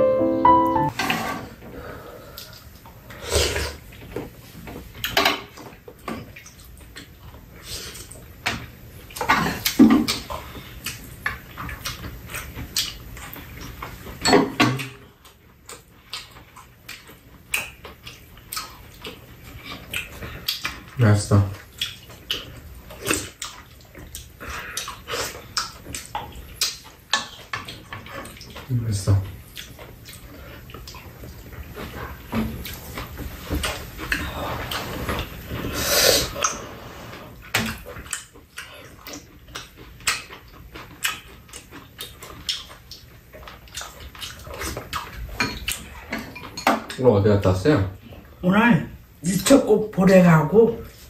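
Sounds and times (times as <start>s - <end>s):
wet chewing and slurping: 2.3s - 14.2s, 14.8s - 47.0s.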